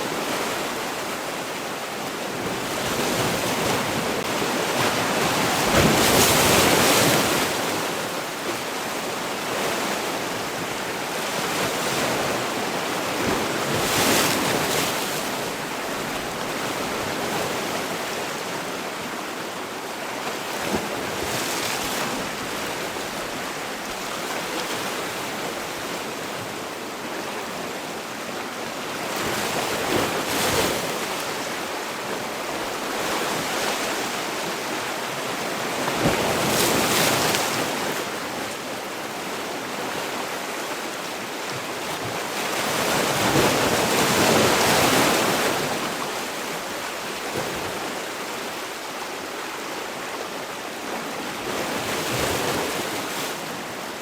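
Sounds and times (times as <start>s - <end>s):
sea waves breaking: 0.0s - 19.2s, 20.3s - 54.0s.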